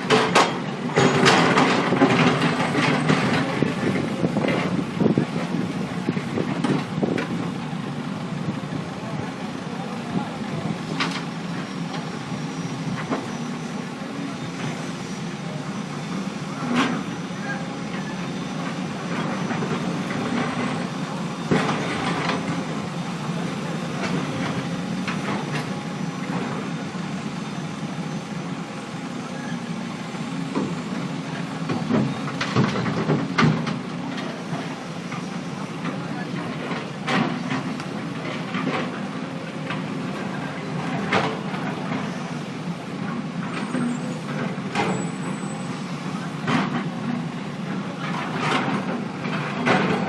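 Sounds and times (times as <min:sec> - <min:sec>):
diesel machinery running: 0:00.0 - 0:50.0.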